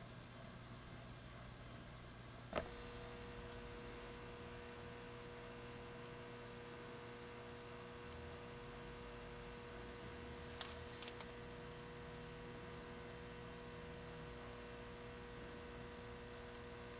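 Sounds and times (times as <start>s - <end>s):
low background hum: 0.0s - 16.9s
steady electrical hum: 0.0s - 16.9s.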